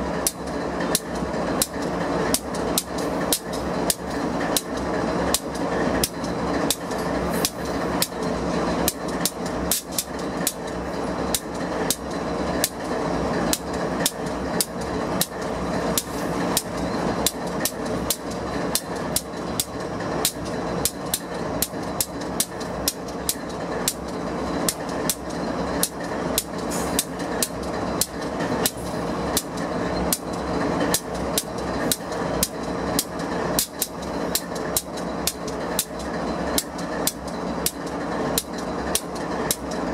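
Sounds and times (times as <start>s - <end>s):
diesel locomotive idling hum: 0.0s - 39.9s
train wheels clicking over rail joints: 0.0s - 39.9s.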